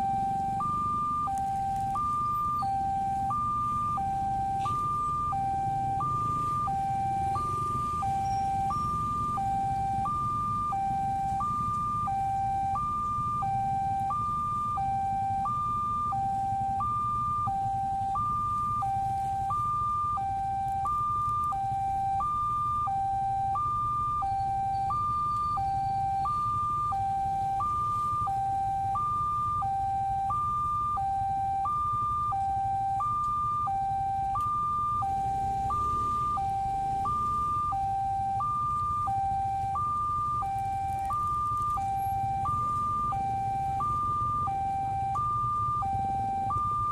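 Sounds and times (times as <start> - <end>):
level crossing two-tone alarm: 0.0 - 46.9.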